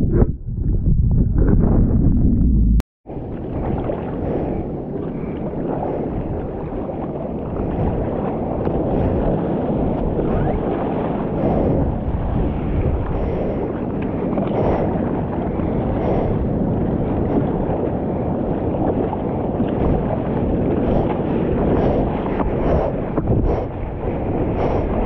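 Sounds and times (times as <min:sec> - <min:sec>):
wind rumbling on microphone: 0:00.0 - 0:25.0
sea water washing: 0:03.1 - 0:25.0.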